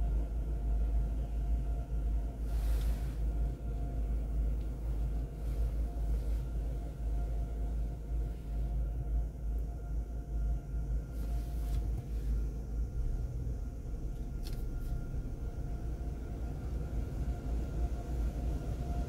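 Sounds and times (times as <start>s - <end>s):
car idling rumble: 0.0s - 19.0s
faint steady hum: 0.0s - 19.0s.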